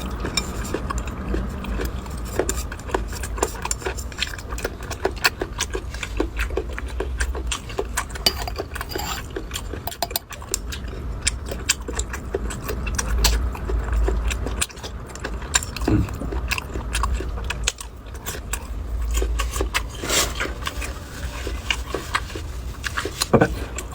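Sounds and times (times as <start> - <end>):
person chewing and biting: 0.0 - 23.9.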